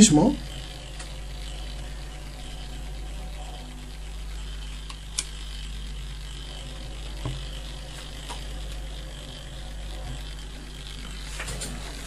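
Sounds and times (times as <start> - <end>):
timer contacts clicking: 0.0 - 12.0
timer motor humming: 0.0 - 12.0.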